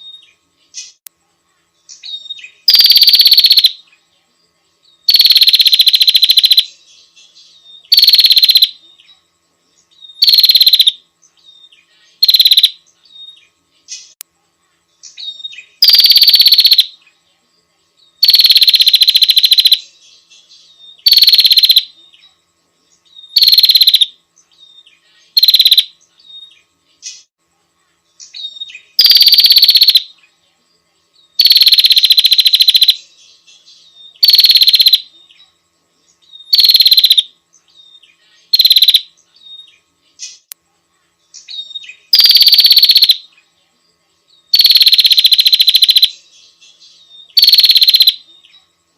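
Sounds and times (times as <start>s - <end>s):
bird buzzing trills: 0.0s - 14.2s, 14.9s - 48.8s.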